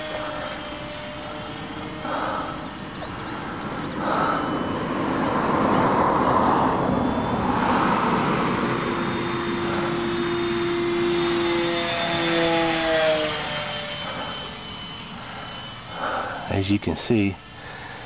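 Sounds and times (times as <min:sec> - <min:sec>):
model plane propeller whine: 0:00.0 - 0:18.0.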